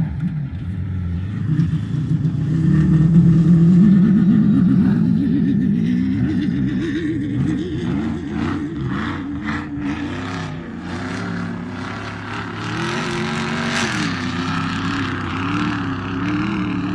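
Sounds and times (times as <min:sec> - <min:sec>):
truck engine revving: 0:00.0 - 0:16.9.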